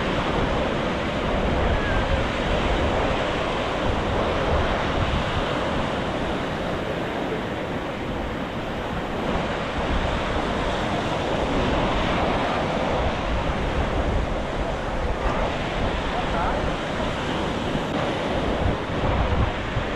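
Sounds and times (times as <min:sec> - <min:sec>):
sea surf washing onto shore: 0:00.0 - 0:19.9
wind buffeting microphone: 0:00.0 - 0:19.9.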